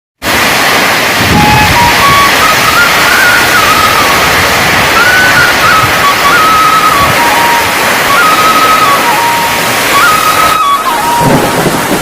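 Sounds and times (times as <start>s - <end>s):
heavy rain hissing: 0.2s - 12.0s
thin melody of held notes: 1.4s - 12.0s.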